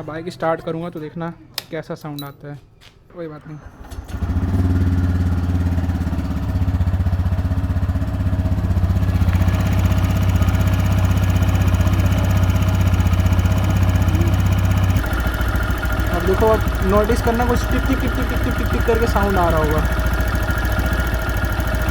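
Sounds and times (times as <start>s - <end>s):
engine ticking: 3.7s - 21.9s
motorcycle engine idling: 4.1s - 21.9s.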